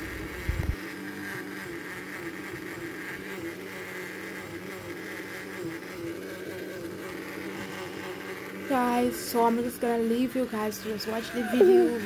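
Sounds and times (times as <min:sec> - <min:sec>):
blender motor humming: 0:00.0 - 0:12.0.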